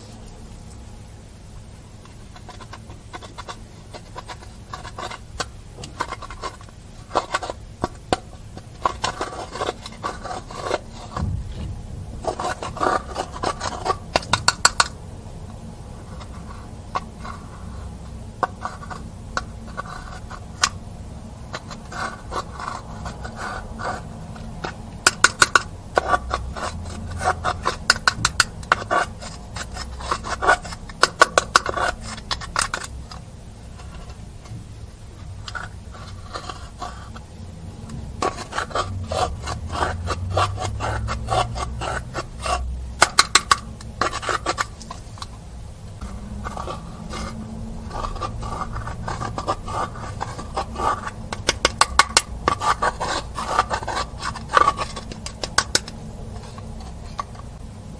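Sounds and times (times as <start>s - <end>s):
slime scraping and rubbing: 2.1s - 45.4s, 46.0s - 57.6s.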